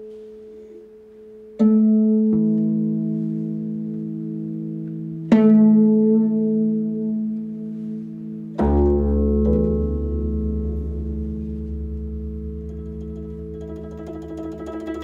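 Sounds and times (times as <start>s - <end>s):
deep low koto note: 1.6s - 15.0s.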